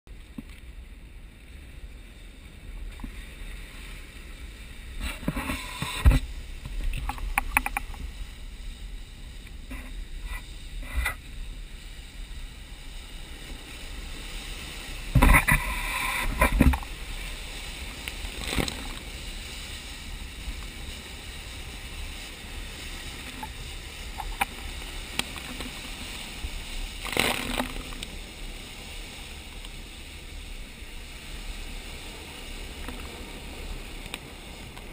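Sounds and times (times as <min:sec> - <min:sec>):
lava flow rushing and rumbling: 0:00.1 - 0:34.9.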